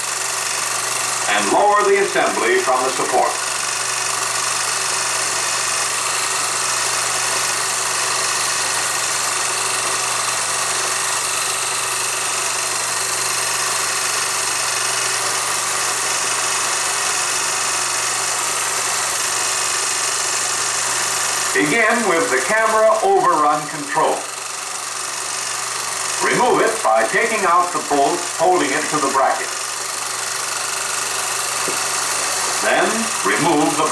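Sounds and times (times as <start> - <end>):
film projector running: 0.0 - 33.9.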